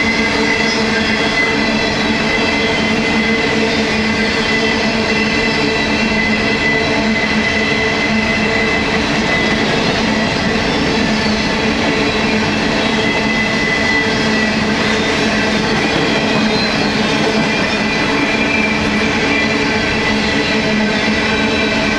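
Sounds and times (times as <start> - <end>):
high squeal: 0.0 - 21.9
train wheels rumbling on rail: 0.0 - 21.9.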